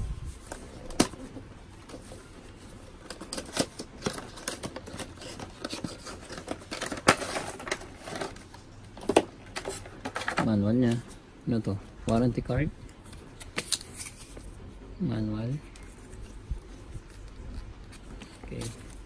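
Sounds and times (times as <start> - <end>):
cardboard and plastic packaging rustling: 0.1 - 19.0.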